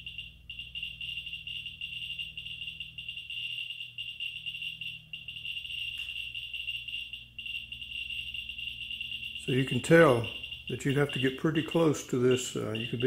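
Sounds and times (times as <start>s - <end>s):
geiger counter clicking: 0.0s - 13.0s.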